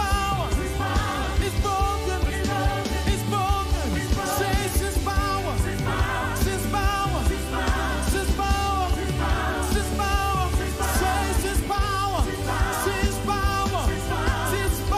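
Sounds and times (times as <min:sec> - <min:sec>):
band with bass and drums: 0:00.0 - 0:14.9
group singing gospel song: 0:00.0 - 0:14.9.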